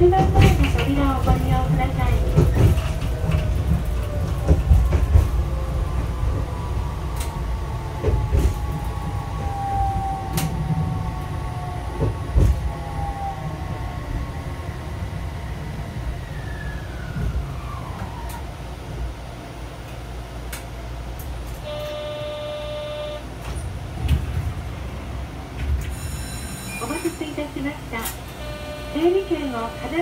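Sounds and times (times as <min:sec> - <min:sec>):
tram rolling rumble: 0:00.0 - 0:30.0.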